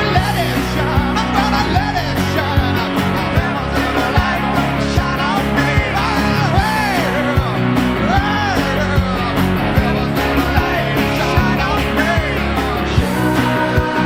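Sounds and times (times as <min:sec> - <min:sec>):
rock music with vocal: 0:00.0 - 0:14.0.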